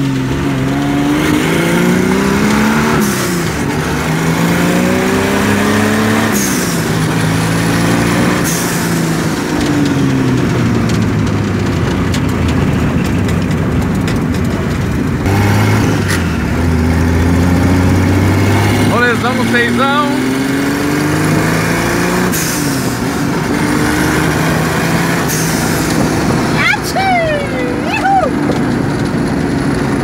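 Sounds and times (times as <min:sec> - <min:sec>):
car engine accelerating: 0:00.0 - 0:30.0
road and wind noise: 0:00.0 - 0:30.0.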